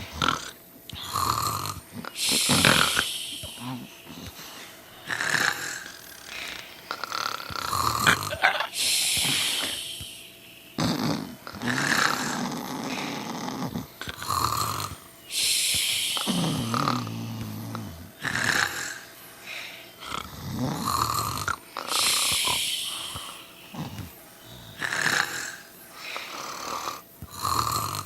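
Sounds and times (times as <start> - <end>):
low rasping snore: 0.0 - 10.0, 10.8 - 19.1, 20.0 - 28.0
loud hissing breaths: 0.0 - 28.0.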